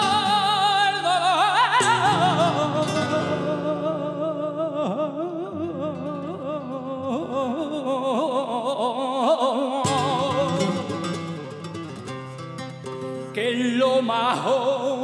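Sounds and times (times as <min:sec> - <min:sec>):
man singing long melisma: 0:00.0 - 0:11.8, 0:13.2 - 0:15.0.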